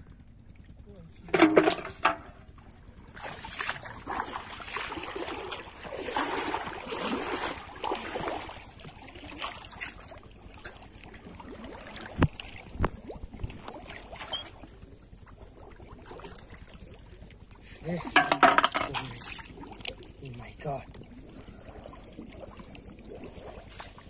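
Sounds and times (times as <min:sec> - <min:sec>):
pond water splashing: 0:00.2 - 0:24.0.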